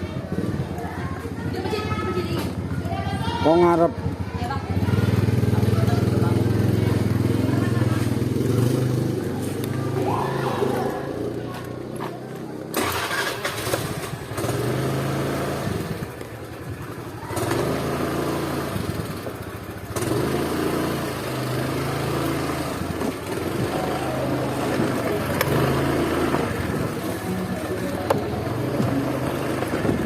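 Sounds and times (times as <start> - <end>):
motorcycle engine revving: 2.2 - 30.0.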